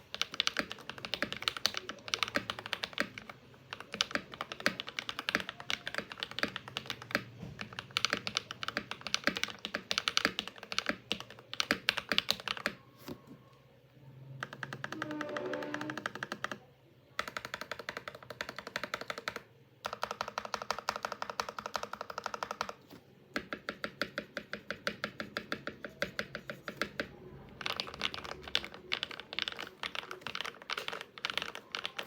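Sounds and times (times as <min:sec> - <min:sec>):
fast typing on mechanical keyboard: 0:00.0 - 0:12.8, 0:14.4 - 0:32.0.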